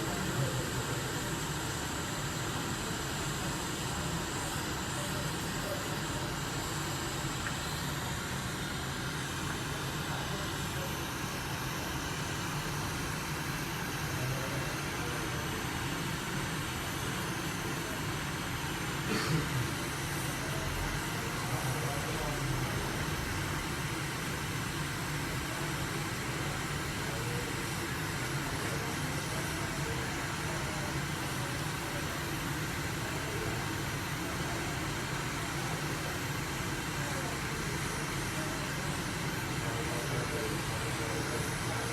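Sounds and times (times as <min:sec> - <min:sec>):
hot-air station airflow hiss: 0:00.0 - 0:41.9.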